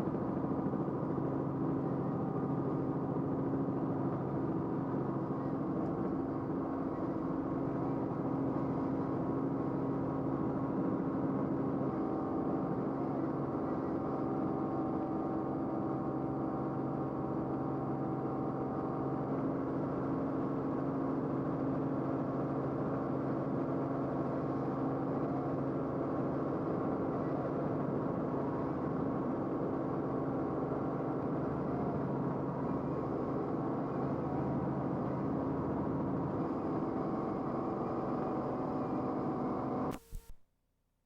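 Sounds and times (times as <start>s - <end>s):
aircraft engine and rotor drone: 0.0s - 39.9s.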